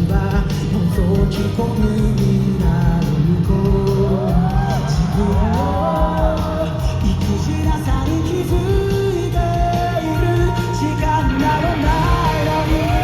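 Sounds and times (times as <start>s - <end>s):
live pop-rock band with vocals: 0.0s - 13.0s.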